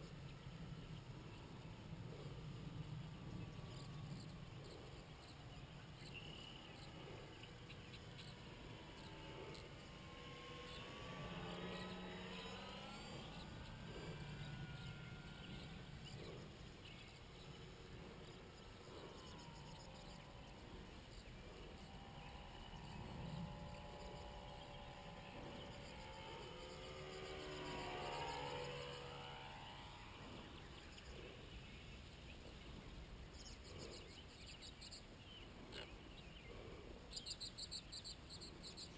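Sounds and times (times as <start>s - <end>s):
model plane electric motor whine: 0.0s - 35.8s.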